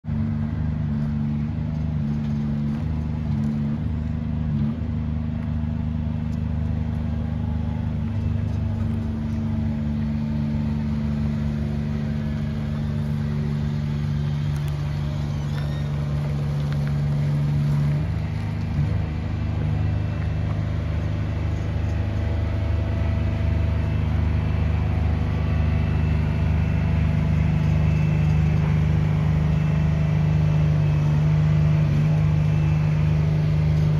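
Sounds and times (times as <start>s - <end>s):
truck diesel engine running: 0.0s - 33.9s.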